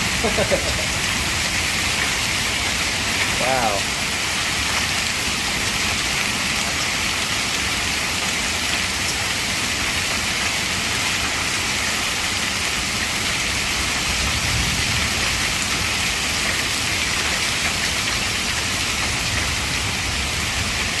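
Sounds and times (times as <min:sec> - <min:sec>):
hail and rain pelting down: 0:00.0 - 0:21.0.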